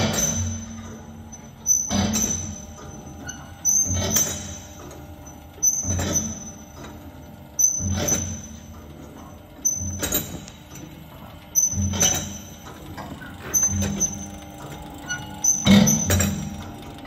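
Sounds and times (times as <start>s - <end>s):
deboning machine mechanical strokes: 0.0s - 17.0s
machine steady running sound: 0.0s - 17.0s.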